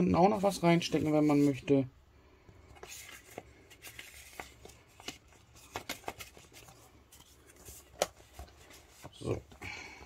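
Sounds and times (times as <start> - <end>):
paper cards rustling: 0.0 - 1.9, 2.6 - 10.0.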